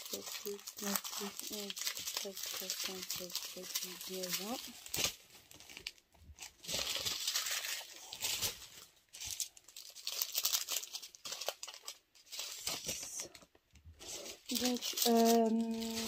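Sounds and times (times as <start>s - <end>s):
plastic bags crinkling: 0.0s - 13.4s, 14.0s - 16.0s.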